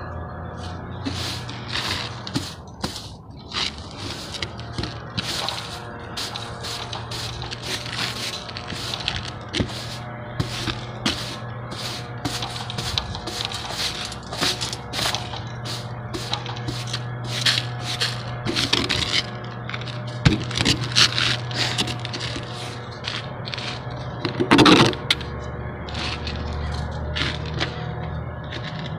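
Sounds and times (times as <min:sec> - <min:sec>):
steady low hum: 0:00.0 - 0:28.9
broom sweeping a rough roof: 0:00.6 - 0:23.9.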